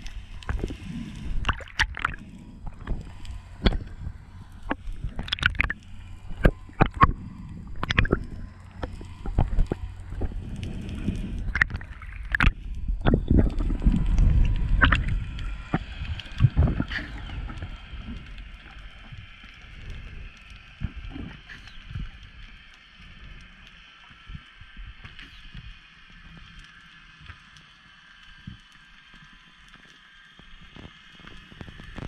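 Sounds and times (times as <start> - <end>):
underwater water moving rumble: 0.0 - 32.0.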